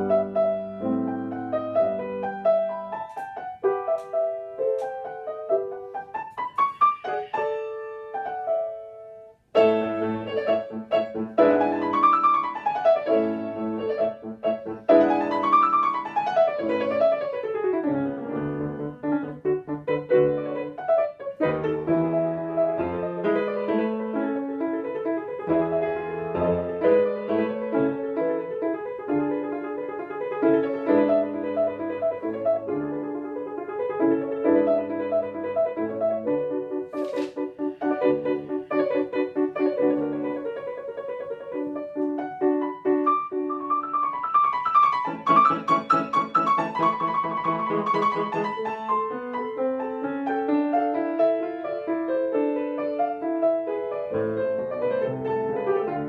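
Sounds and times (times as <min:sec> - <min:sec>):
two pianos playing: 0:00.0 - 0:56.0.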